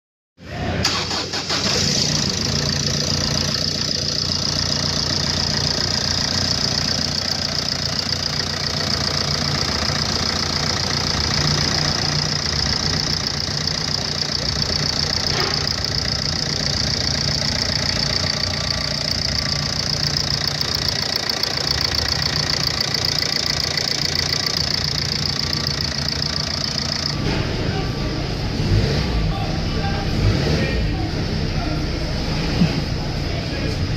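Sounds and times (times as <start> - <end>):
diesel engine idling: 0.5 - 33.9.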